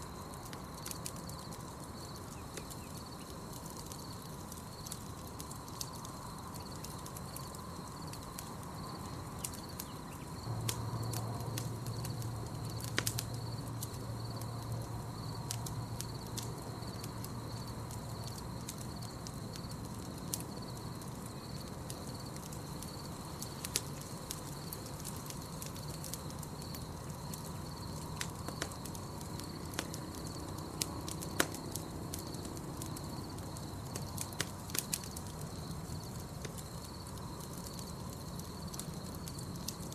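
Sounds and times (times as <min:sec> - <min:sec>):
campfire crackling and popping: 0:00.0 - 0:39.9
night forest ambience: 0:00.0 - 0:39.9.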